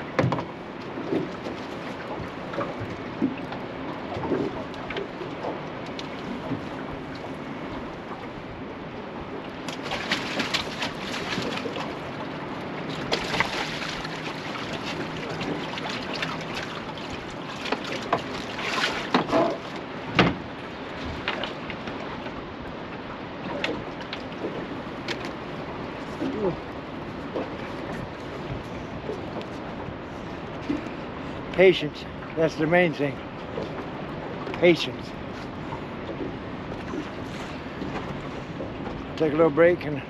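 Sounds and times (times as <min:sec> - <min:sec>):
water slapping against boat: 0:00.0 - 0:40.0
wind: 0:00.0 - 0:40.0.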